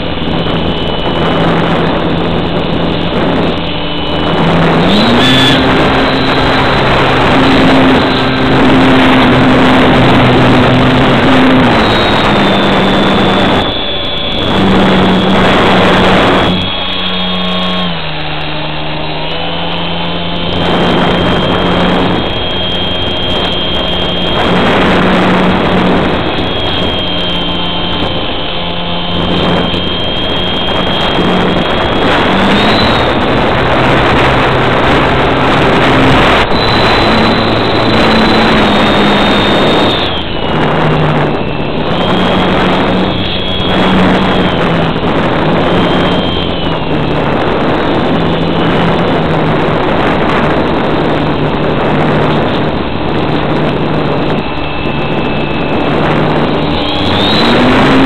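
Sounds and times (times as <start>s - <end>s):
model airplane motor whine: 0.0s - 58.0s
wind rush over microphone: 0.0s - 58.0s.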